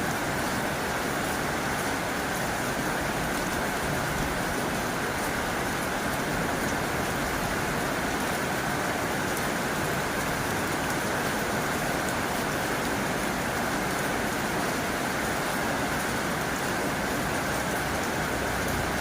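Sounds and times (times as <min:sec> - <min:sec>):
heavy rain on a tin roof: 0:00.0 - 0:19.0.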